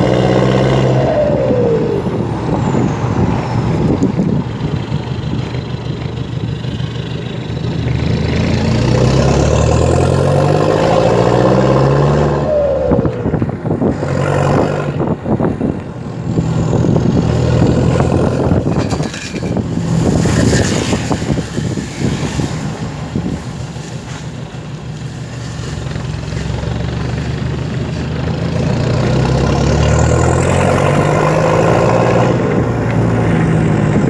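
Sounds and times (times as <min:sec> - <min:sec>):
diesel engine accelerating: 0:00.0 - 0:34.0.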